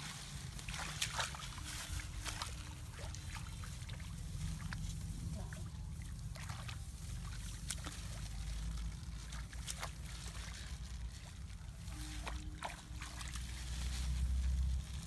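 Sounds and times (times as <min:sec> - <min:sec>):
steady low rumble: 0:00.0 - 0:15.0
water sloshing and splashing: 0:00.0 - 0:15.0.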